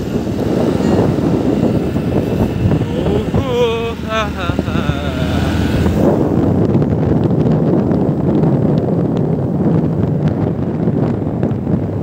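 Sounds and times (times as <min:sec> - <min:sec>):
motorcycle engine: 0:00.0 - 0:12.0
road noise: 0:00.0 - 0:12.0
wind rushing over microphone: 0:00.0 - 0:12.0.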